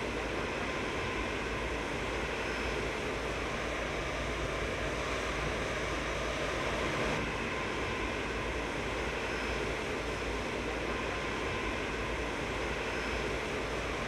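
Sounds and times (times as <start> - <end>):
jet airliner taxiing: 0.0 - 14.0.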